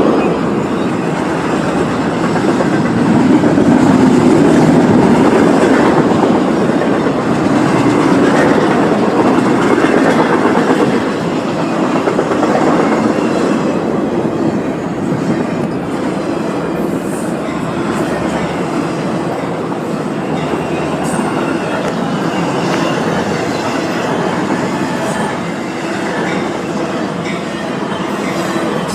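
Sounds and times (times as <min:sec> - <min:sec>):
clickety-clack over rail joints: 0:00.0 - 0:28.9
train cars rolling past: 0:00.0 - 0:28.9.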